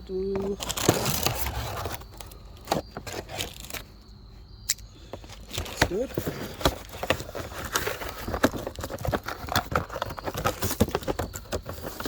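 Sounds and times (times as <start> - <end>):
packaging crackling and rustling: 0.1 - 3.9, 5.2 - 12.0.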